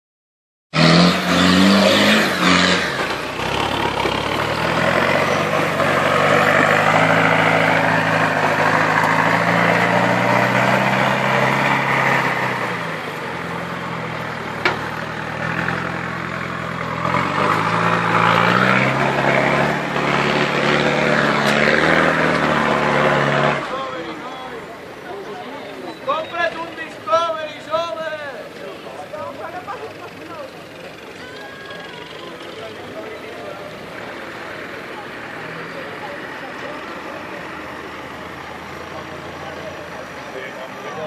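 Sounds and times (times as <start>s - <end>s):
off-road engines revving: 0.7s - 41.0s.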